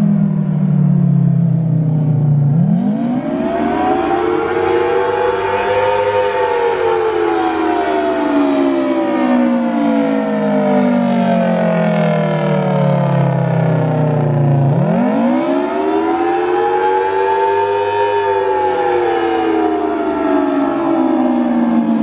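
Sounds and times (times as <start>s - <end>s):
warning siren winding up and down: 0.0s - 22.0s.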